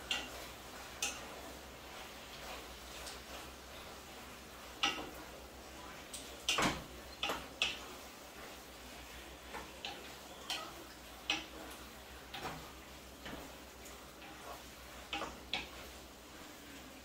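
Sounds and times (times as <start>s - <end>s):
wooden spatula scraping frying pan: 0.0s - 17.0s.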